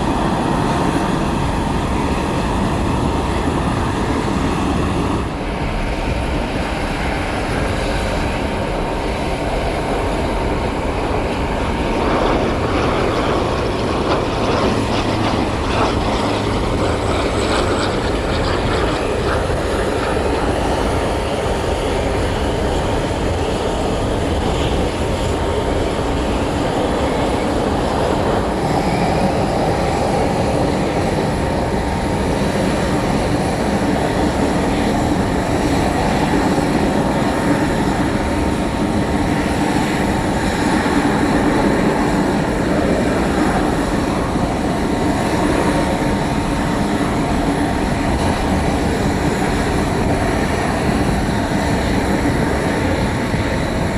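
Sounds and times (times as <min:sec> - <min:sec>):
aircraft engines rumbling: 0:00.0 - 0:53.9
engine whine: 0:00.0 - 0:53.9.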